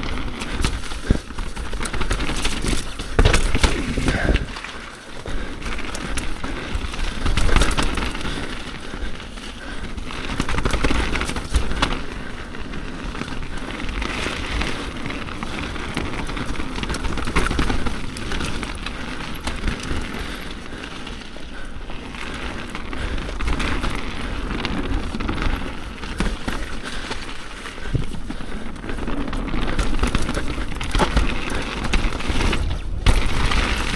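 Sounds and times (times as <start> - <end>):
bike knocking and rattling: 0.0 - 33.9.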